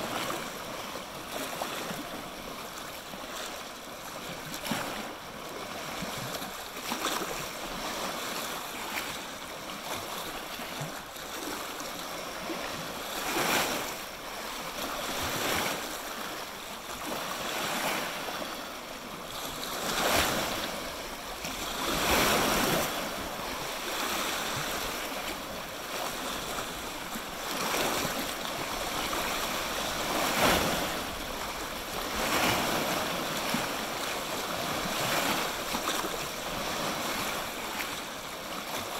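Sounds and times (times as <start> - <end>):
lake waves lapping on shore: 0.0 - 38.9.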